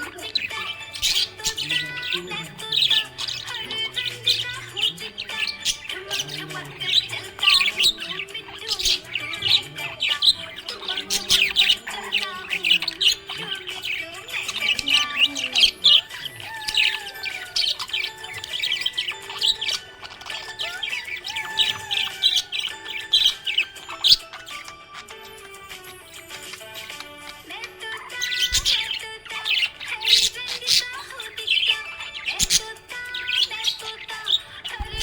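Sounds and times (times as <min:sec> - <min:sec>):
budgerigars chirping: 0:00.0 - 0:35.0
music: 0:00.0 - 0:35.0.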